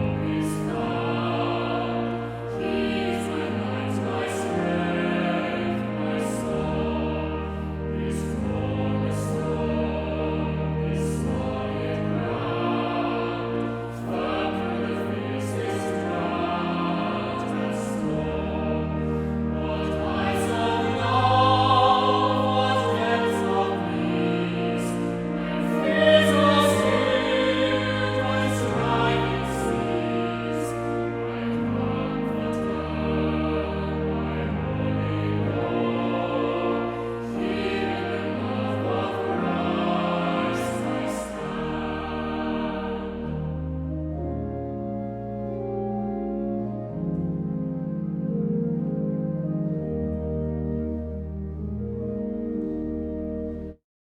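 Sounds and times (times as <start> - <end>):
choir singing slowly: 0.0 - 53.8.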